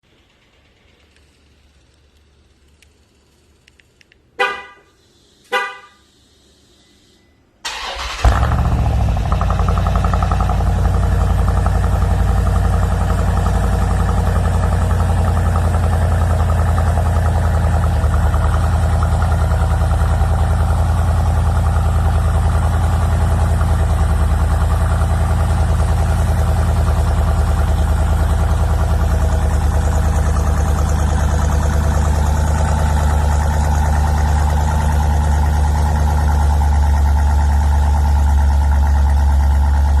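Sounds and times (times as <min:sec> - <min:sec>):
car engine idling: 0:07.6 - 0:40.0.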